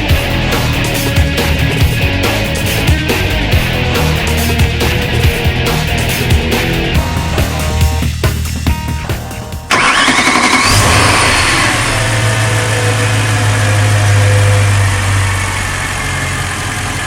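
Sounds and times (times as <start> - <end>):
car engine starting and idling: 0.0 - 17.0.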